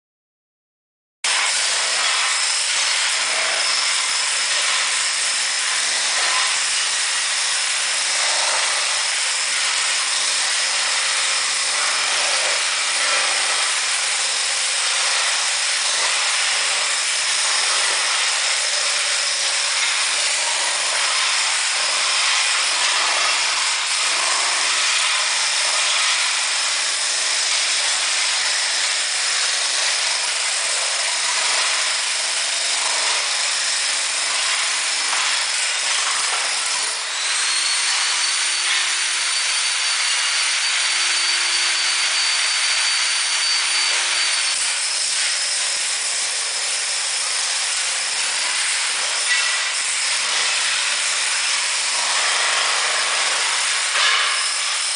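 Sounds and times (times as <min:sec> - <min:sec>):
demolition hammer breaking tiles: 0:01.3 - 0:54.9.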